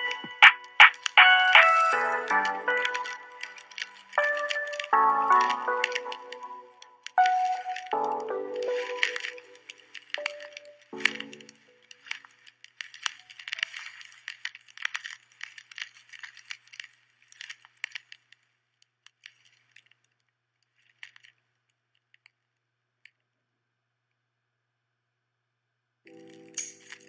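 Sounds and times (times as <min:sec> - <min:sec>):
rapid sharp clicks and crackles: 0:00.0 - 0:22.4.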